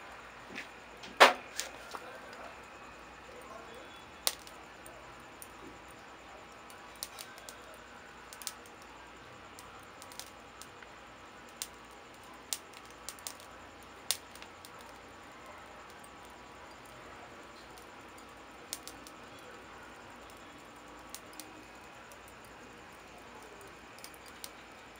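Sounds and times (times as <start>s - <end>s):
kindling crackling and popping: 0.0s - 24.9s
low steady fire hiss: 0.0s - 24.9s.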